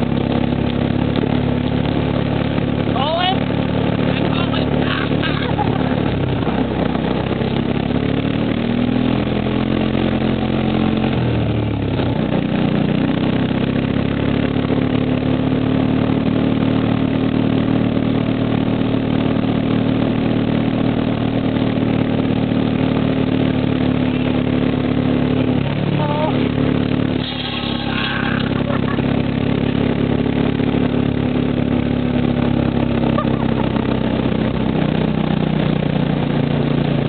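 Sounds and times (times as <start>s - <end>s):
road noise on gravel: 0.0s - 37.0s
vehicle engine running: 0.0s - 37.0s.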